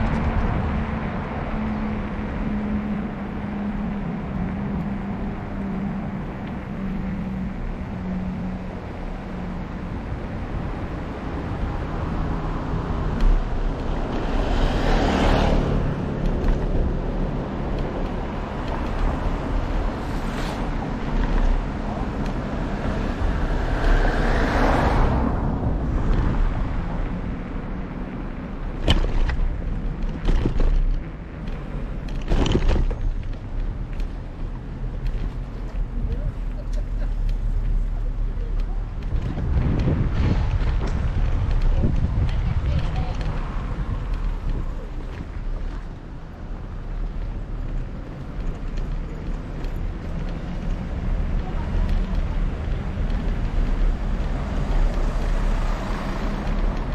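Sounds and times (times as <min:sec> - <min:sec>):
motor vehicles passing: 0:00.0 - 0:56.9
wind and road noise: 0:00.0 - 0:56.9.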